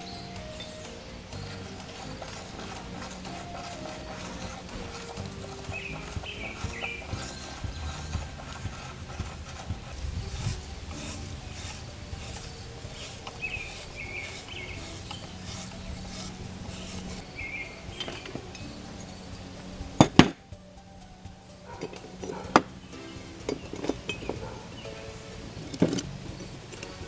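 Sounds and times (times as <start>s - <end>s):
metal scraping and rattling: 0.0s - 27.0s.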